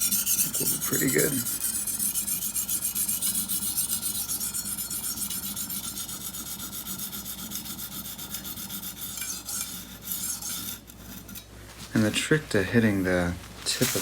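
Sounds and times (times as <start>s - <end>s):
knife sharpening on whetstone: 0.0s - 11.5s.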